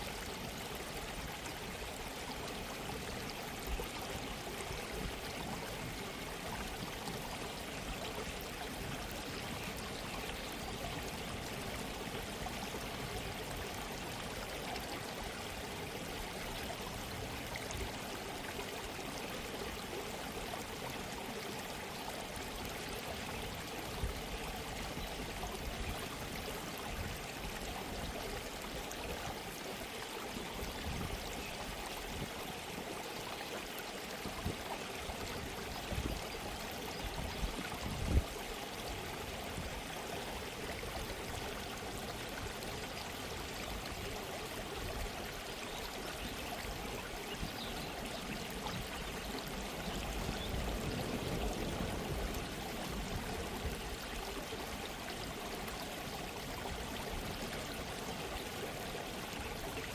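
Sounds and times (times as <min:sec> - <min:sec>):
gentle stream running: 0:00.0 - 0:59.9.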